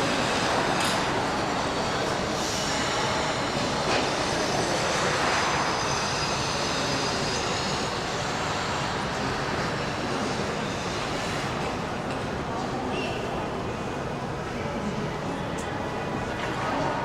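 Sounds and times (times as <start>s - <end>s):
indoor ice rink ambience: 0.0s - 17.0s.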